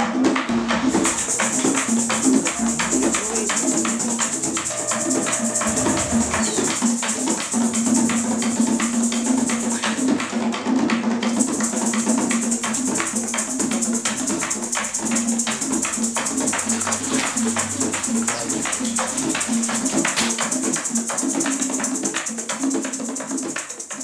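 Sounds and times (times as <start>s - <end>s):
maracas rattling: 0.4s - 24.0s.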